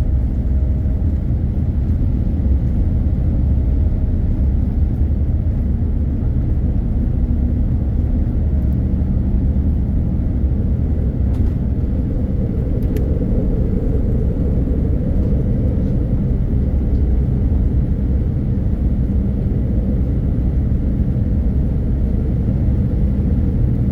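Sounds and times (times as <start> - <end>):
airplane cabin rumble during take-off: 0.0 - 23.9.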